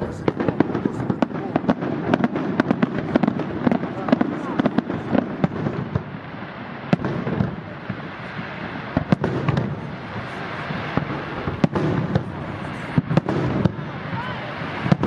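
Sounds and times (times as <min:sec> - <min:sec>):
firework shells bursting: 0:00.0 - 0:15.0
fireworks crackling and rumbling: 0:00.0 - 0:15.0.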